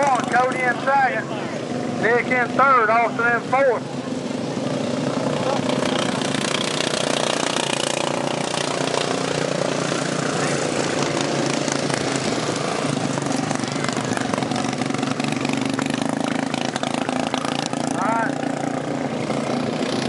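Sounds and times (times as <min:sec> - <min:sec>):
racing lawn mower engines droning: 0:00.0 - 0:20.0.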